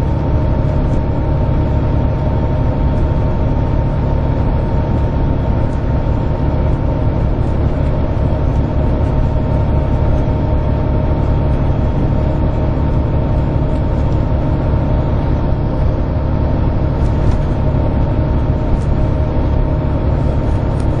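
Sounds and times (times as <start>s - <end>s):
bus engine and road noise drone: 0.0s - 21.0s
thin steady whine: 0.0s - 21.0s.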